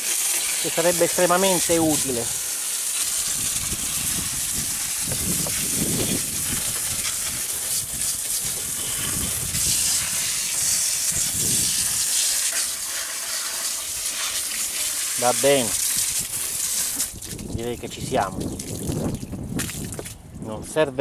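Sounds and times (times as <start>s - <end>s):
water jet spraying and splashing: 0.0s - 17.6s.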